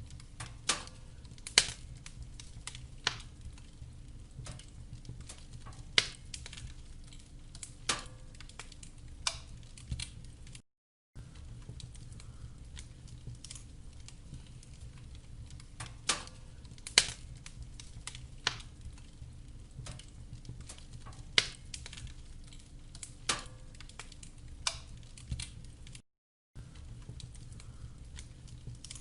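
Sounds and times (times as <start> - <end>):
fire crackles and pops: 0.0 - 10.6, 11.2 - 26.0, 26.6 - 29.0
fire rumbling: 0.0 - 10.6, 11.2 - 26.0, 26.6 - 29.0.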